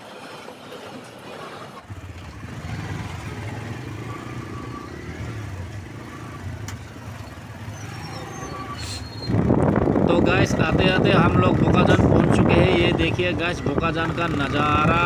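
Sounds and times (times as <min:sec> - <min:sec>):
motorcycle and scooter engines: 0:00.0 - 0:15.0.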